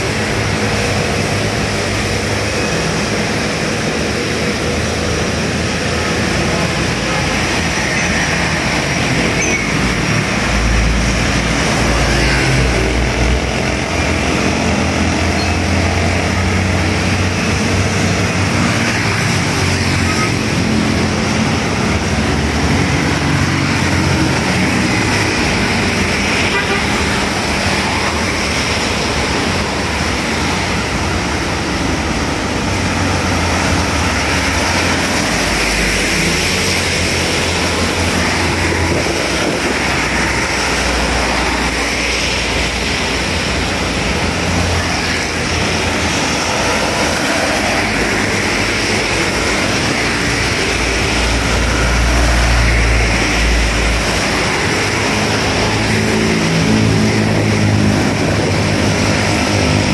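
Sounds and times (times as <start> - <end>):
passing car engines: 0.0 - 59.9
rain and tyres hissing: 0.0 - 59.9.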